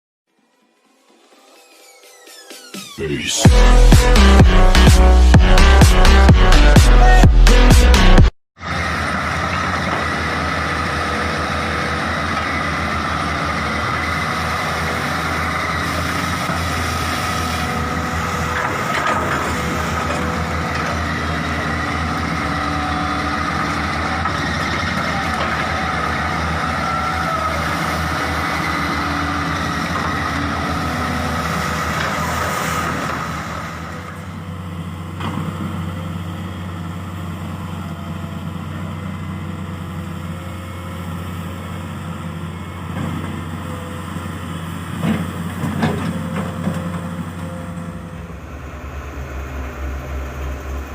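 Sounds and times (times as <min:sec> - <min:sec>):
diesel engine running: 0:02.8 - 0:50.9.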